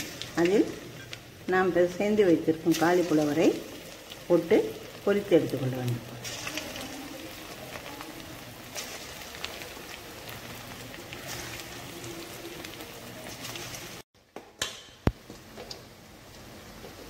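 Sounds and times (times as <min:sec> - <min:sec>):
batter sizzling in deep fryer oil: 0:00.0 - 0:14.1.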